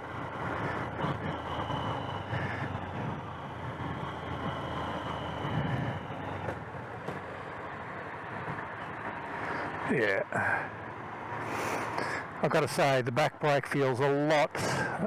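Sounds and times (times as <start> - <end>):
motorcycle engine hum: 0.0 - 15.0
road and wind noise: 0.0 - 15.0.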